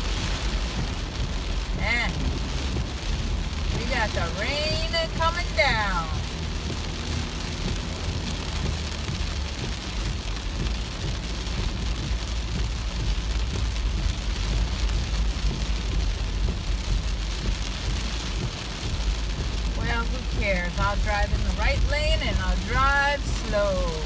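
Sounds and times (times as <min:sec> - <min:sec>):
car rumbling on the road: 0:00.0 - 0:24.0
heavy rain on a moving car: 0:00.0 - 0:24.0.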